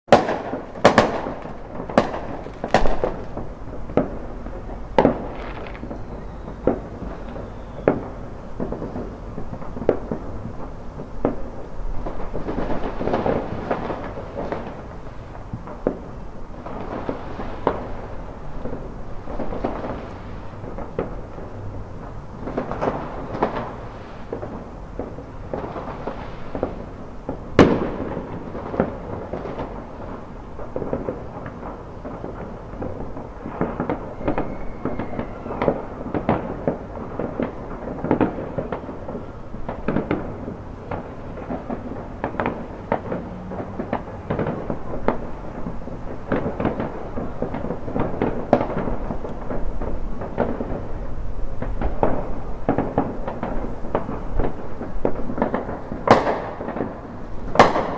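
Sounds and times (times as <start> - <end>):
loud firework bang: 0.1 - 30.1, 30.7 - 57.9
fireworks bangs and crackles: 0.1 - 57.9.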